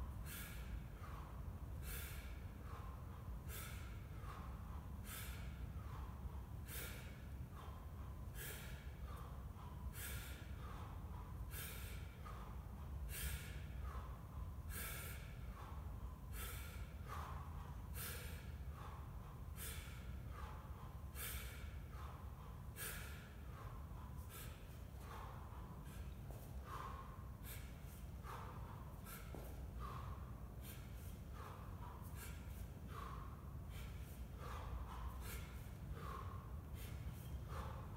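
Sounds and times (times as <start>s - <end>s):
man breathing sharply: 0.0s - 37.9s.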